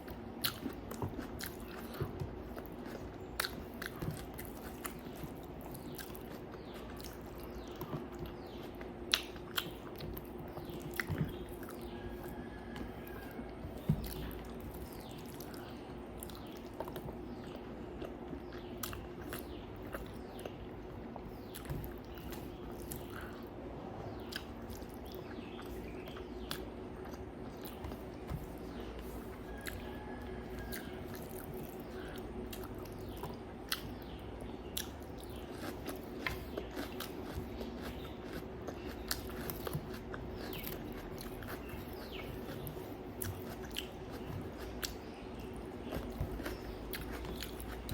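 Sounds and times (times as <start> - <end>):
person chewing and crunching: 0.0 - 23.5, 24.2 - 47.9
steady low hum: 0.0 - 47.9.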